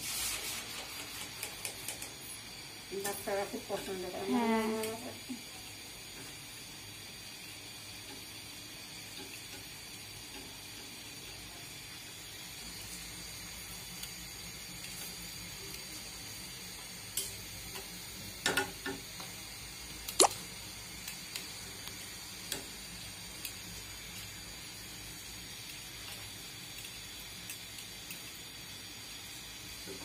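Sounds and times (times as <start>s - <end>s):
hot oil sizzling in wok: 0.0s - 30.0s.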